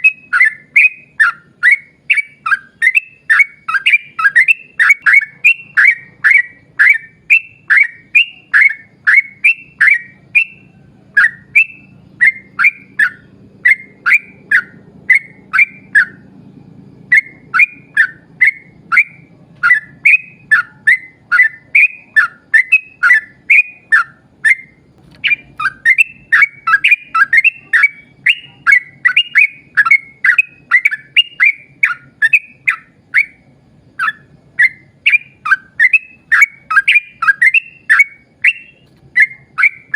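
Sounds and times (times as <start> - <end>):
bird whistling downward notes: 0.0 - 39.9.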